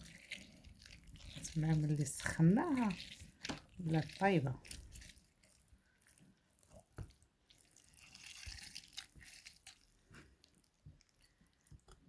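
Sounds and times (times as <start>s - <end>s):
faint trickle of liquid: 0.0s - 12.0s.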